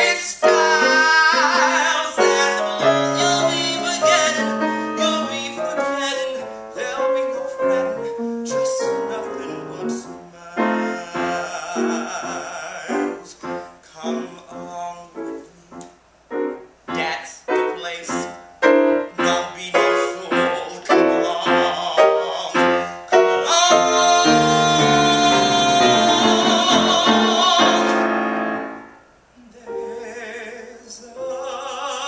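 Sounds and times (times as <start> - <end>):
man singing with vibrato: 0.0 - 15.9, 16.9 - 32.0
piano chords: 0.0 - 32.0.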